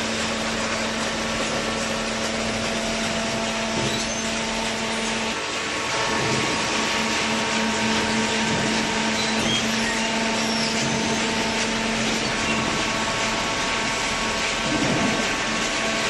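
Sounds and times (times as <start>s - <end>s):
hydraulic baler droning: 0.0s - 16.0s.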